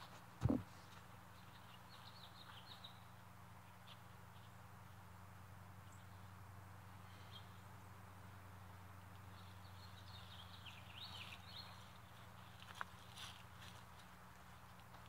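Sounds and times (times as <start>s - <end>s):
songbird chirps: 0.0s - 5.1s, 5.7s - 15.0s.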